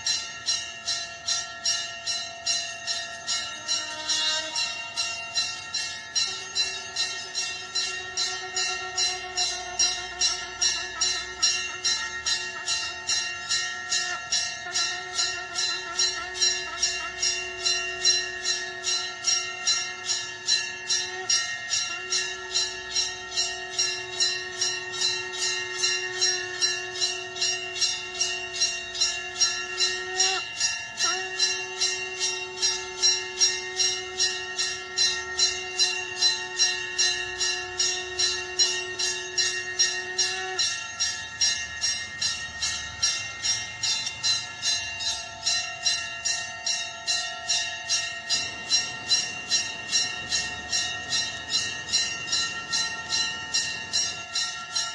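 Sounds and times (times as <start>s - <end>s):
bell ringing rapidly: 0.0s - 54.9s
conch shell blown: 2.9s - 42.0s, 47.1s - 54.9s.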